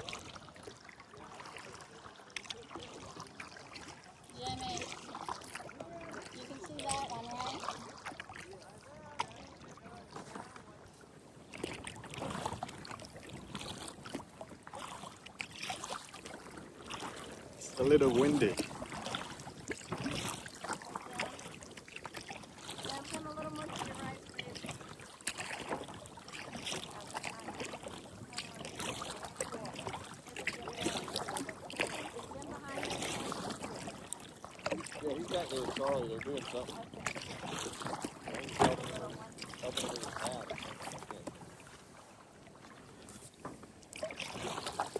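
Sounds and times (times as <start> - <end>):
paddle splashing water: 0.0 - 44.9.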